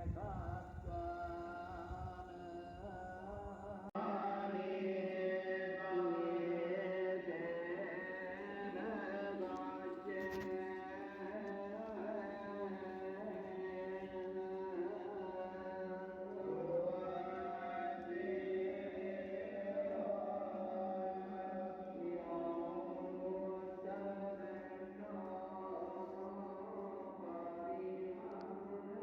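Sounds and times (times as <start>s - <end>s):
chant-like singing: 0.0s - 29.0s
music: 0.0s - 29.0s.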